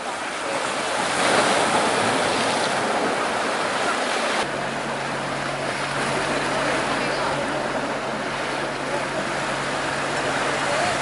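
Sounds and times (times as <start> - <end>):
boat engine droning: 0.0 - 11.0
water churning in propeller wash: 0.0 - 11.0
waves: 0.0 - 11.0.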